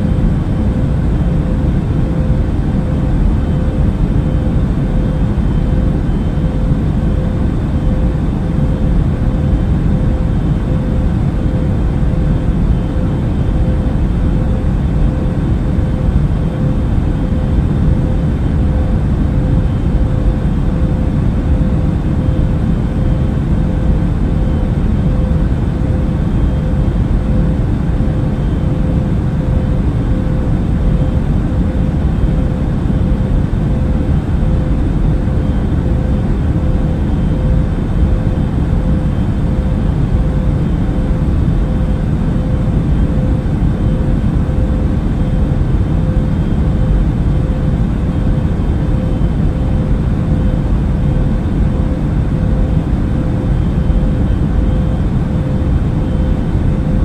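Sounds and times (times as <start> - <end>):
airliner engine and air rumble: 0.0 - 57.0
steady hum tone: 0.0 - 57.0.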